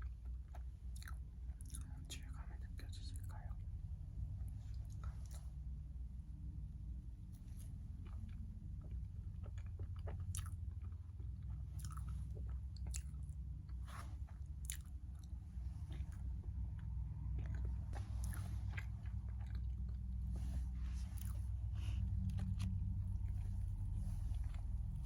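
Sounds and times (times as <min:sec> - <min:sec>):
person chewing and biting cake: 0:00.0 - 0:25.0
steady low hum: 0:00.0 - 0:25.0.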